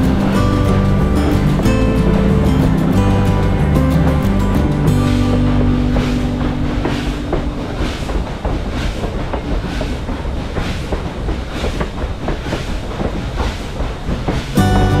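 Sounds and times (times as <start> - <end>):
train rushing noise: 0.0 - 15.0.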